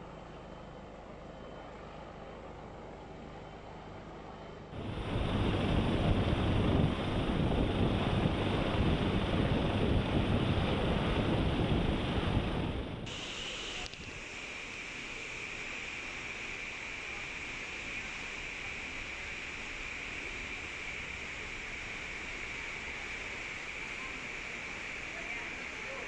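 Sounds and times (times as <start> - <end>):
helicopter rotor and engine: 0.0 - 26.0
rotor wash buffeting microphone: 4.8 - 26.0
rush of ship's churning wake: 4.8 - 26.0.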